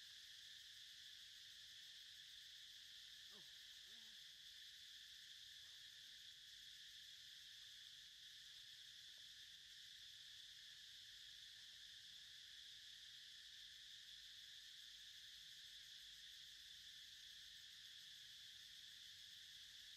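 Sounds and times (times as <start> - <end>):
insect chorus drone: 0.0 - 19.9.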